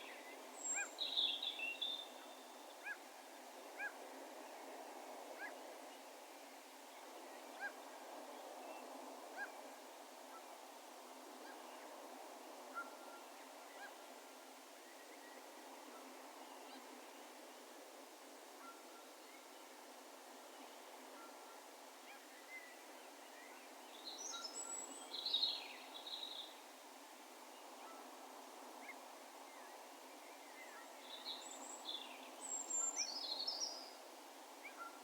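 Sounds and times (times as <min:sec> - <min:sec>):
low background hiss: 0:00.0 - 0:35.0.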